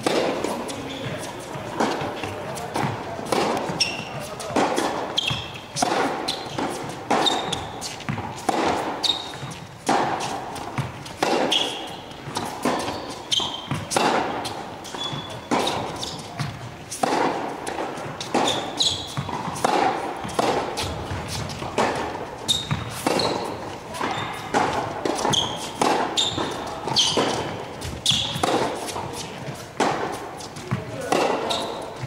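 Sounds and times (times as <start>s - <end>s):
racket striking tennis ball: 0.0s - 32.0s
tennis ball bouncing: 0.0s - 32.0s
tennis shoes squeaking: 0.0s - 32.0s.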